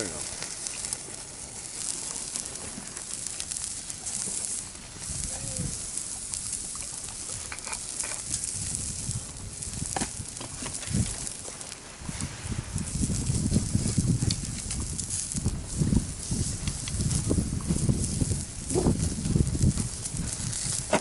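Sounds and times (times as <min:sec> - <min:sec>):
meat sizzling: 0:00.0 - 0:21.0
wood fire crackling: 0:00.0 - 0:21.0.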